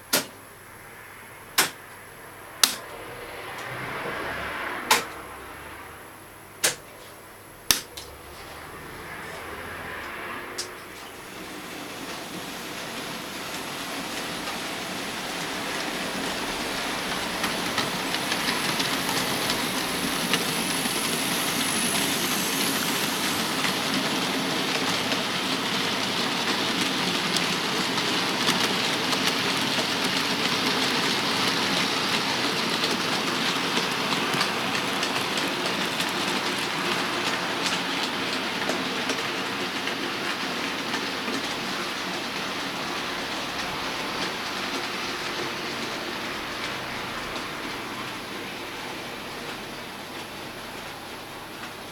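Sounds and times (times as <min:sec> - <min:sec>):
model train running on track: 0:00.0 - 0:51.9.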